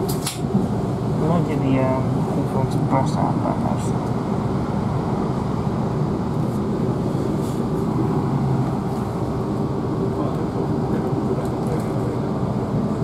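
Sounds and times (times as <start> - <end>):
train drone from inside carriage: 0.0 - 13.0.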